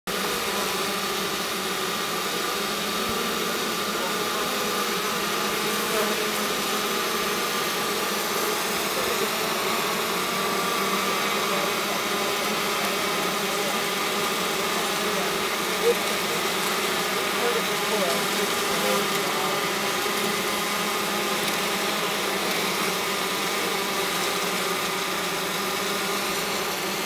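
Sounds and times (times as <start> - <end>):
honeybees buzzing: 0.1 - 27.0.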